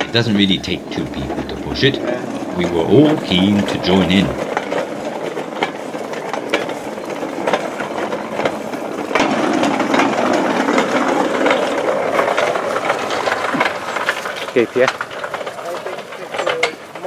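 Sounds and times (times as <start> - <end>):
steel wheels rattling on rails: 0.0 - 17.0.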